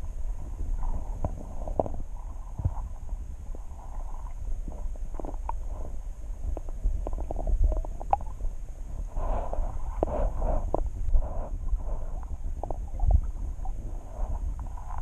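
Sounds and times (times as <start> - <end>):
low underwater rumble: 0.0 - 15.0
underwater clicks and gurgles: 0.0 - 15.0.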